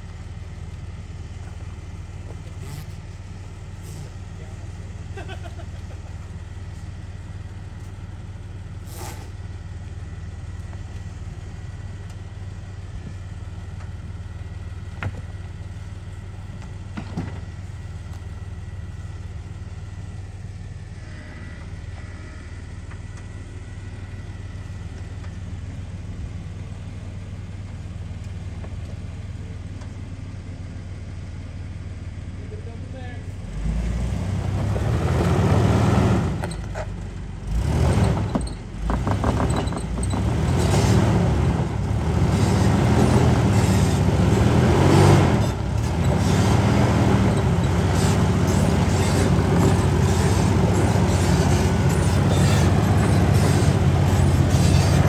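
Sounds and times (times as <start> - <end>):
engine running at low revs: 0.0 - 55.0.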